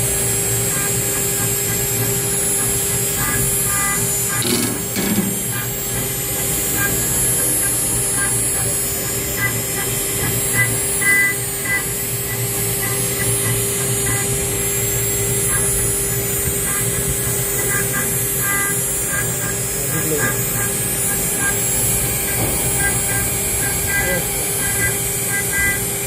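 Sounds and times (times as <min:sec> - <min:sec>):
engraving machine spindle whine: 0:00.0 - 0:26.0.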